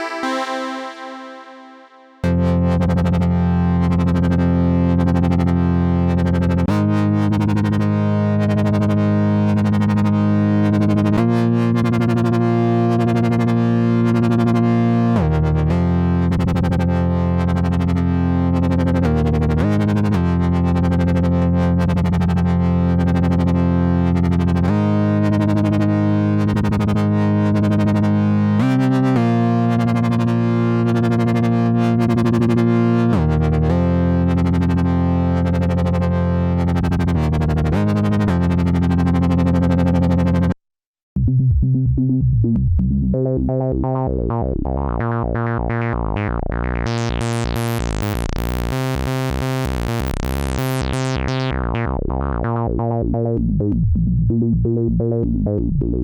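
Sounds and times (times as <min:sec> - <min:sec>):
synthesizer chords over bass: 0:00.0 - 0:40.6, 0:41.2 - 0:56.0.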